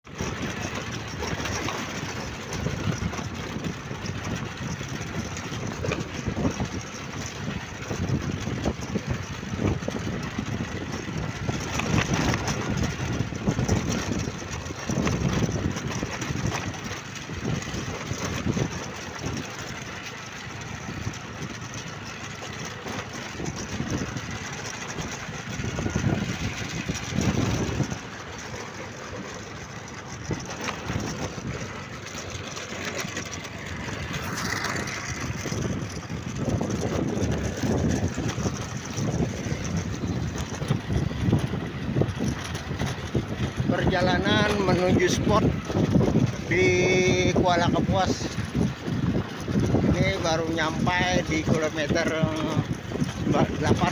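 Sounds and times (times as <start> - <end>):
engine hum: 0.0 - 53.9
road and wind noise: 0.0 - 53.9.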